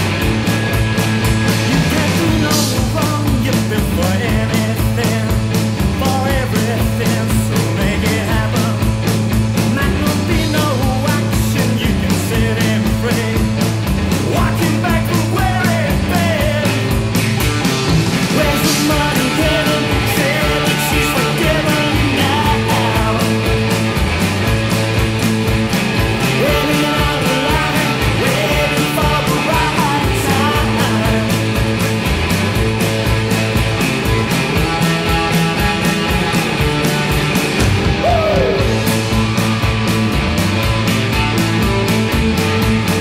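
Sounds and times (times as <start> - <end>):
garage rock band playing: 0.0 - 43.0.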